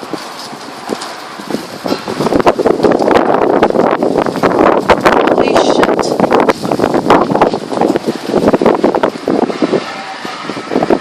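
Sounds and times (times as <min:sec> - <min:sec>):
gale wind buffeting microphone: 0:00.0 - 0:11.0.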